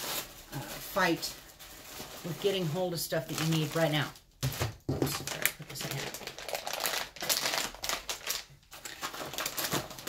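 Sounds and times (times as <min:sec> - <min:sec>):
packaging crackling and rustling: 0:00.0 - 0:10.0.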